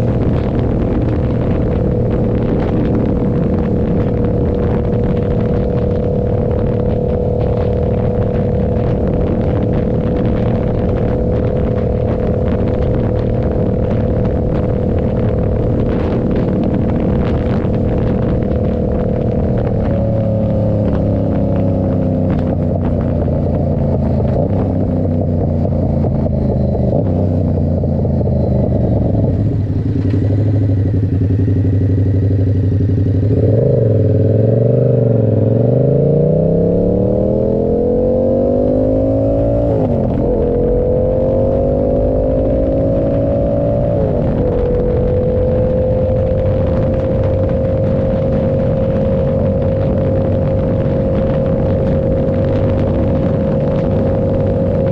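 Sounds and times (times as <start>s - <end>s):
motorcycle engine riding: 0.0s - 54.9s.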